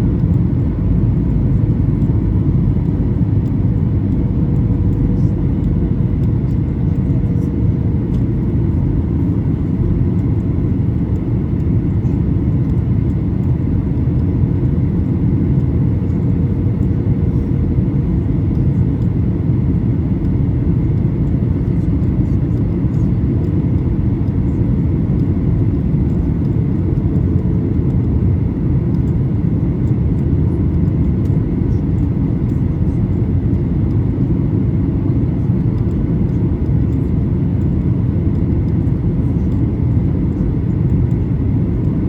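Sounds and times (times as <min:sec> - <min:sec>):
airplane cabin drone: 0:00.0 - 0:42.0.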